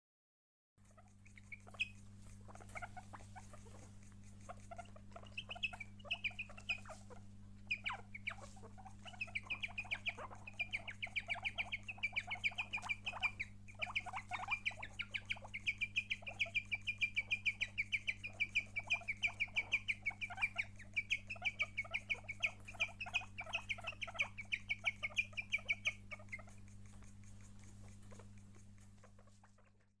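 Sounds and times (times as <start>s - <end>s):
guinea pig chirping: 0.8s - 30.0s
steady low hum: 0.8s - 30.0s.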